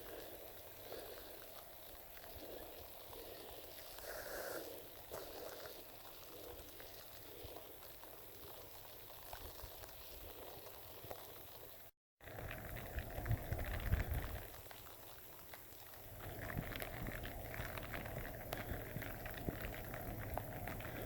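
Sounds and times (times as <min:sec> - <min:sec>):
light rain patter: 0:00.0 - 0:21.0.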